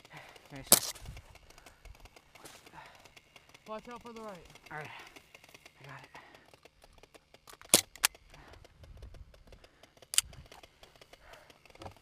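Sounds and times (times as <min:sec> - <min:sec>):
sharp clicks: 0:00.4 - 0:12.0.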